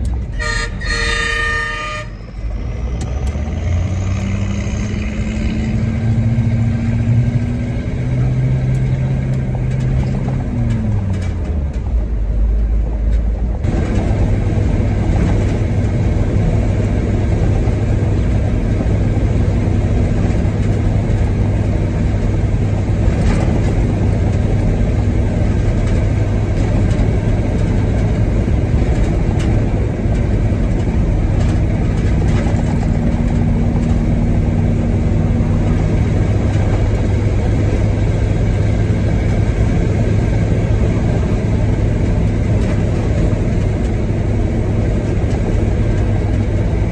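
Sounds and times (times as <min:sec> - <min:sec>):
truck engine droning: 0:00.0 - 0:46.9.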